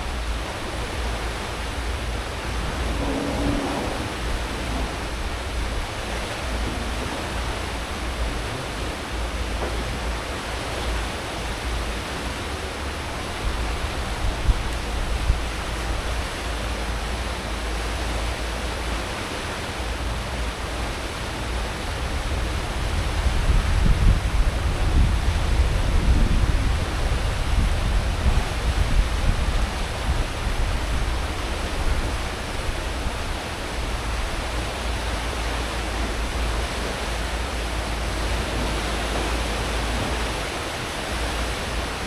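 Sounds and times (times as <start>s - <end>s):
low rumble of ship engines: 0.0s - 42.0s
ship wake water rushing: 0.0s - 42.0s.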